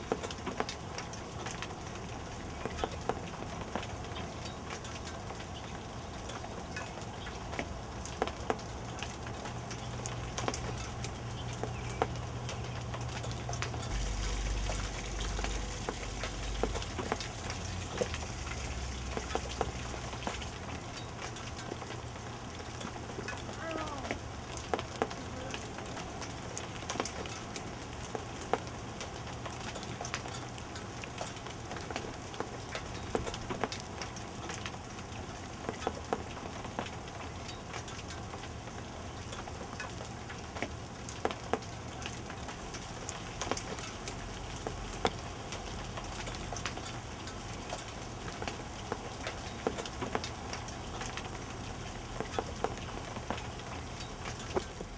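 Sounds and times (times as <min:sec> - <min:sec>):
rain falling and dripping: 0:00.0 - 0:54.9.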